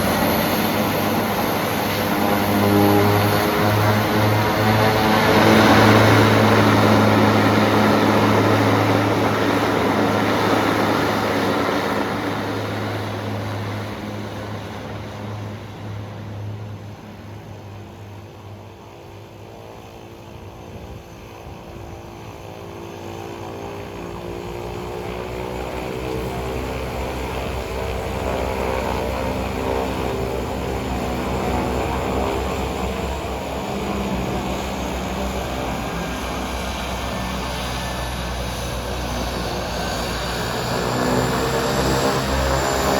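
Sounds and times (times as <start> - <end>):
propeller plane engines droning: 0.0 - 42.9.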